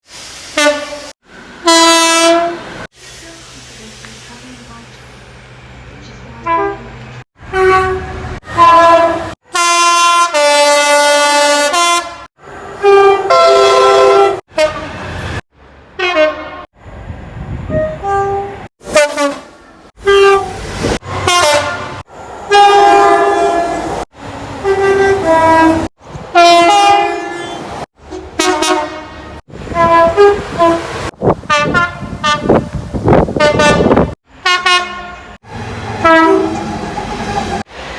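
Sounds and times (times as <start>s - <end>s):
train horn blasts: 0.6s - 2.8s, 6.4s - 15.2s, 16.0s - 16.7s, 17.7s - 24.0s, 24.6s - 32.7s, 33.4s - 37.6s.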